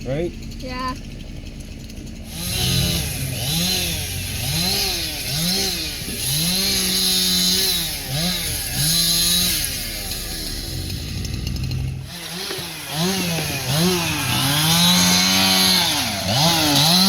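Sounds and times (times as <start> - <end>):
chainsaw revving: 0.1 - 17.0.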